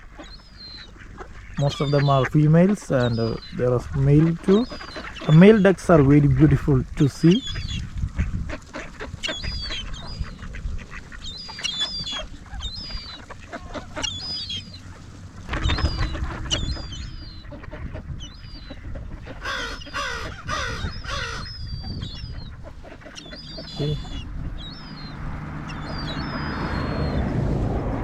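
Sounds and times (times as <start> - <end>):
ducks calling: 0.0 - 27.4.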